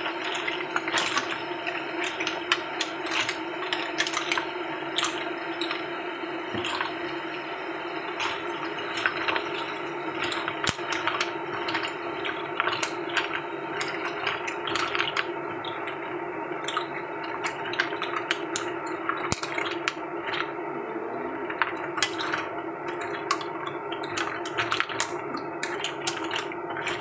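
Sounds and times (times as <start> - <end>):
steady sizzle: 0.0 - 27.0.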